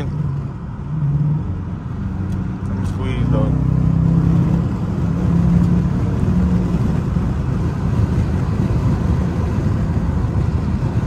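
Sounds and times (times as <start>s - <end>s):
car engine and road noise: 0.0s - 11.0s
low engine hum: 0.0s - 11.0s.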